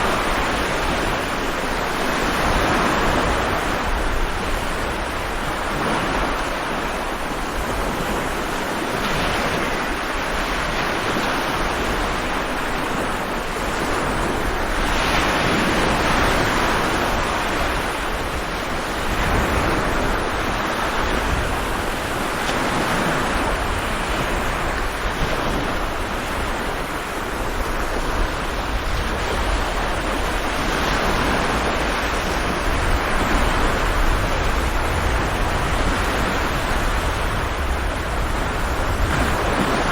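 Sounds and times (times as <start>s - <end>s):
heavy waves breaking: 0.0s - 39.9s.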